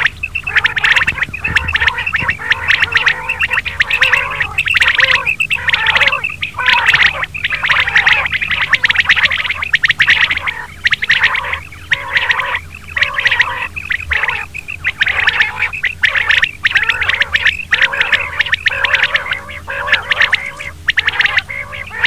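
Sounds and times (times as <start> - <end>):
quails calling: 0.0 - 22.0
steady low hum: 0.0 - 22.0.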